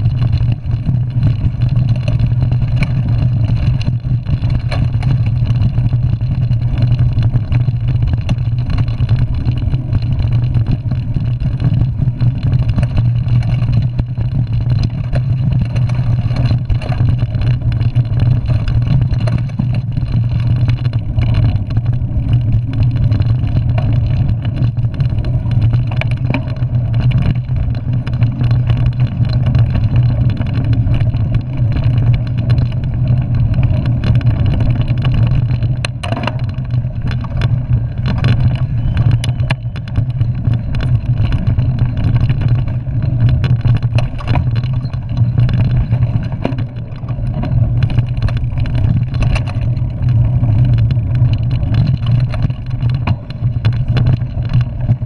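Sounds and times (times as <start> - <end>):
bike trail vibration: 0.0 - 55.0
wind rumble: 0.0 - 55.0.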